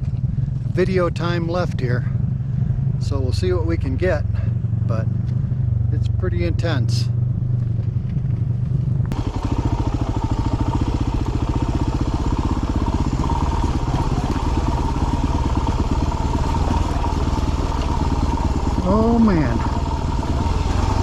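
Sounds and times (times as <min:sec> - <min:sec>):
clatter from rough trail: 0:00.0 - 0:02.2, 0:03.0 - 0:21.0
dirt bike engine: 0:00.0 - 0:21.0.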